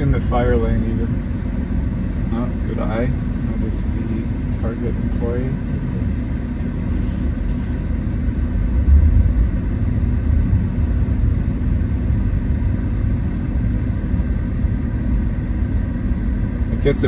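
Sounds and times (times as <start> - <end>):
road and tyre rumble in car: 0.0 - 17.0.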